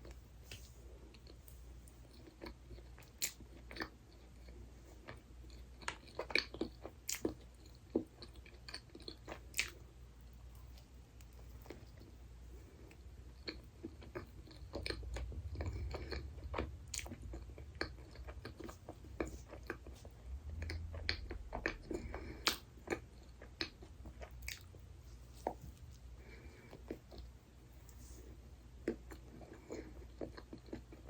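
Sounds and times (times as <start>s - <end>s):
close chewing: 0.9s - 31.0s.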